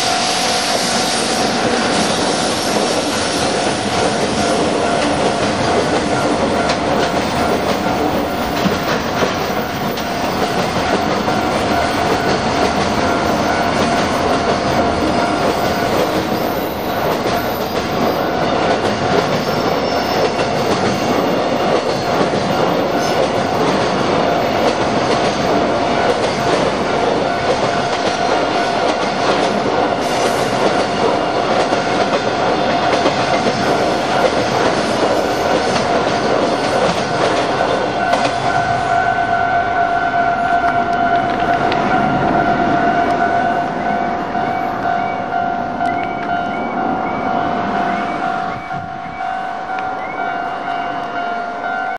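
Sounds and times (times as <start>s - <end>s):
freight train wheels on rails: 0.0s - 51.9s
level crossing warning bell: 2.5s - 51.9s.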